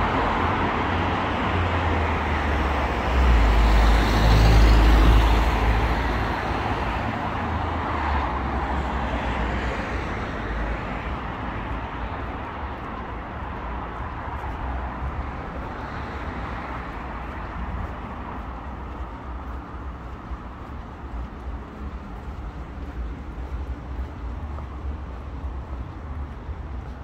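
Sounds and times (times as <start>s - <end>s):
traffic hum: 0.0s - 27.0s.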